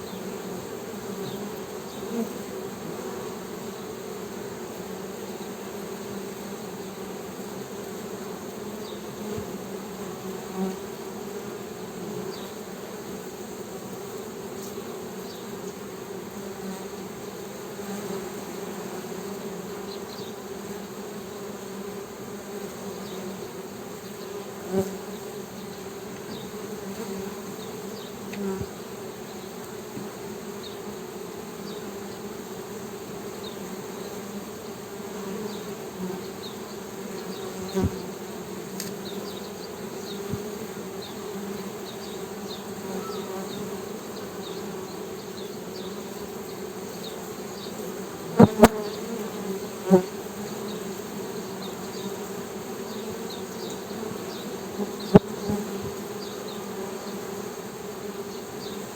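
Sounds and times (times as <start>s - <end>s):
honey bees buzzing: 0.0s - 58.9s.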